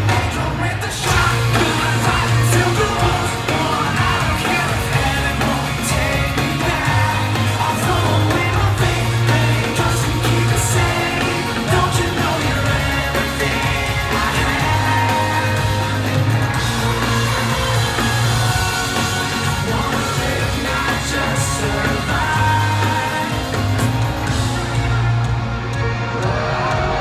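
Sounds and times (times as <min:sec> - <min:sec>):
pop-rock song with singing: 0:00.0 - 0:27.0.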